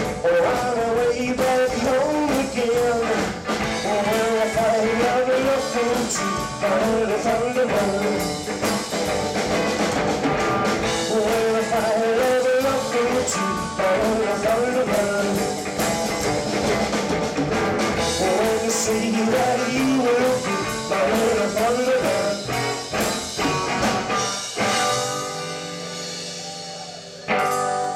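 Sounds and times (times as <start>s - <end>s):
rockabilly band playing: 0.0s - 27.9s.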